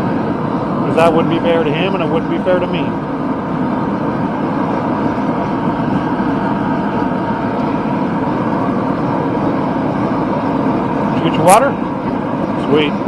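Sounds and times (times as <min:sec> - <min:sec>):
forge rushing noise: 0:00.0 - 0:13.0.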